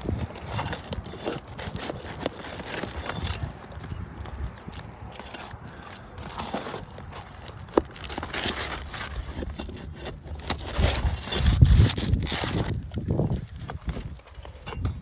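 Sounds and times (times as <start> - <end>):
tools scraping and clicking: 0.1 - 15.0.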